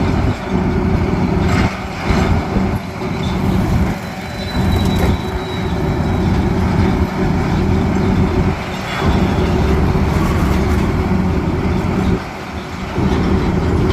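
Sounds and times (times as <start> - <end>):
heavy machinery engine rumbling: 0.0 - 13.9.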